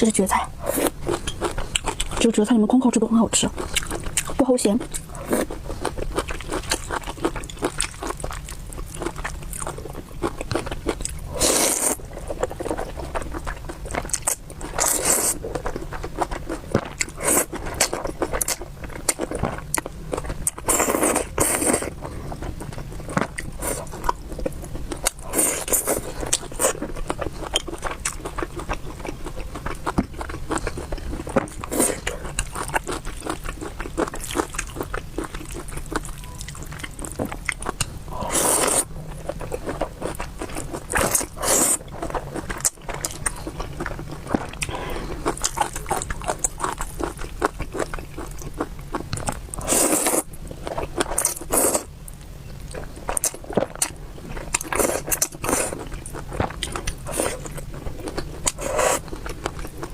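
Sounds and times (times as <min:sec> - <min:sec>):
person chewing food: 0:00.6 - 0:02.3, 0:03.5 - 0:51.9, 0:52.6 - 0:59.9.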